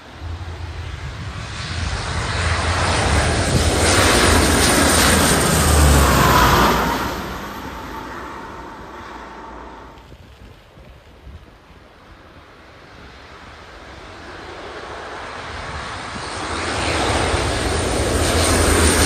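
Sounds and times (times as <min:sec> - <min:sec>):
aircraft engine flying past: 0:00.0 - 0:19.0.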